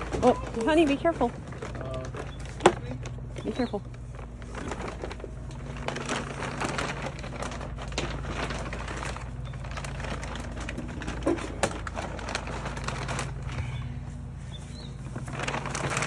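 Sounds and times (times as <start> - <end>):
plastic tarp crinkling: 0.0 - 16.0.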